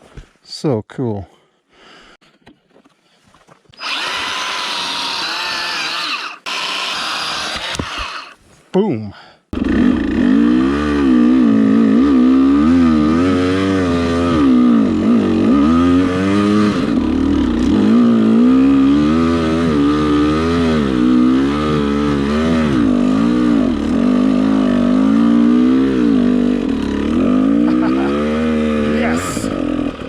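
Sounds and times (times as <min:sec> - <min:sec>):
dirt bike engine revving: 0:03.8 - 0:08.4, 0:09.6 - 0:30.0.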